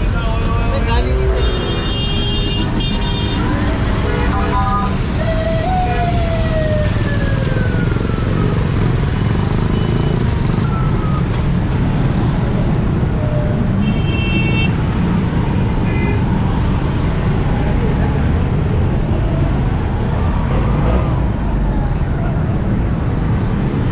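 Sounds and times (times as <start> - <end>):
motorcycle and rickshaw engines: 0.0 - 23.9.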